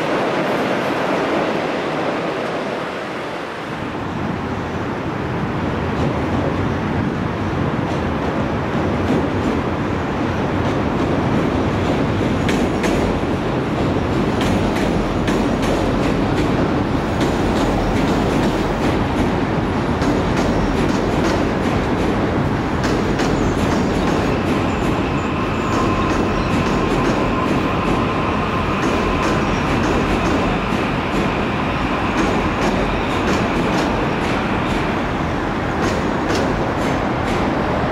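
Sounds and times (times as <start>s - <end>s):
train rumbling across bridge: 0.0s - 37.9s.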